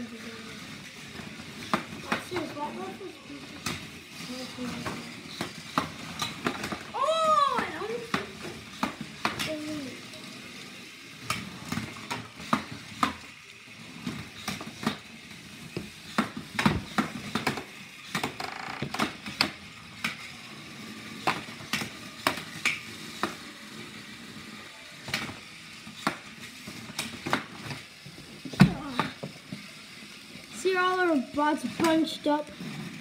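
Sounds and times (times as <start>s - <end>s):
toy robots clattering: 0.0s - 33.0s.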